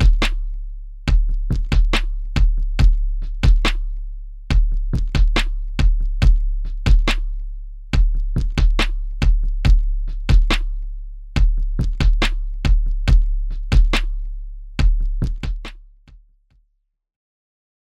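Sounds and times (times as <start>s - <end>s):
drum machine beat: 0.0s - 15.8s
deep bass: 0.0s - 16.2s.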